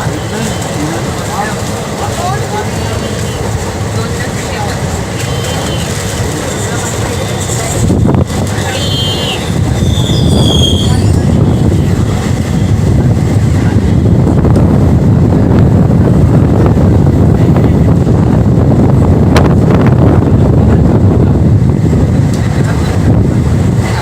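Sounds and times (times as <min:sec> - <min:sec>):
train rumbling at speed: 0:00.0 - 0:24.0
wind on microphone: 0:00.0 - 0:24.0.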